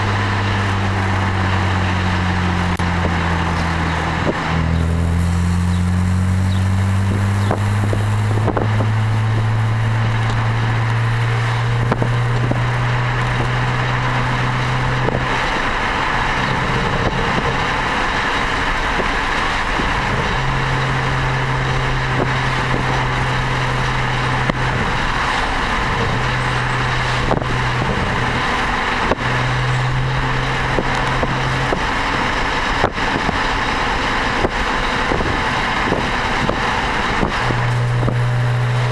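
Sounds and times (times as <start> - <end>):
car exhaust drone: 0.0 - 38.9
wind noise: 0.0 - 38.9.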